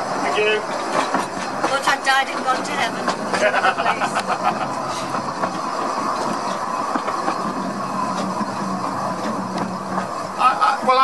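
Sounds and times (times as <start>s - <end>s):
railway carriage running: 0.0s - 11.0s.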